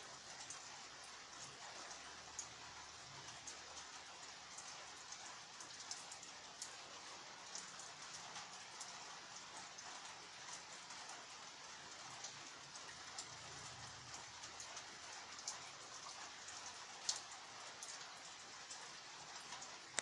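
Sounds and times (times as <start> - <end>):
raindrops ticking: 0.1 - 20.0.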